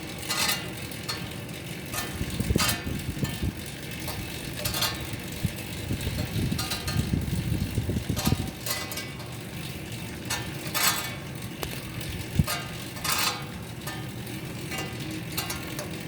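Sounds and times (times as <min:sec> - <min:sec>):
exercise bike fan rumbling: 0:00.0 - 0:16.0.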